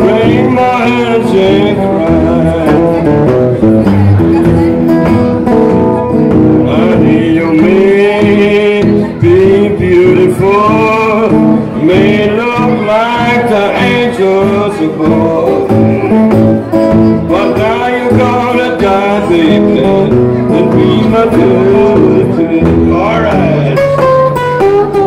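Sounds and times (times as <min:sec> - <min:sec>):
resonator guitar blues playing: 0:00.0 - 0:25.0.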